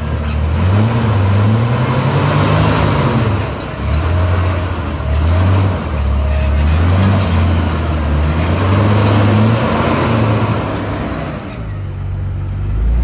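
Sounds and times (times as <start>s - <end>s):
vehicle engine at low revs: 0.0s - 13.0s.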